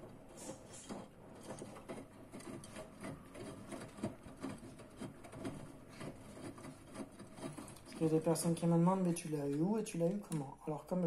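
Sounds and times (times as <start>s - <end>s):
washing machine drum turning: 0.0s - 11.0s.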